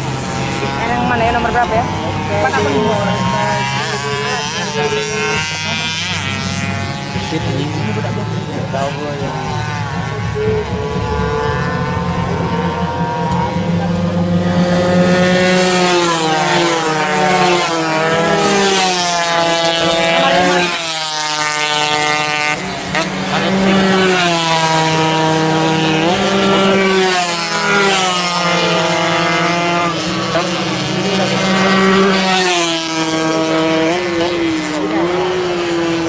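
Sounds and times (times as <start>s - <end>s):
race motorcycles revving: 0.0s - 36.0s.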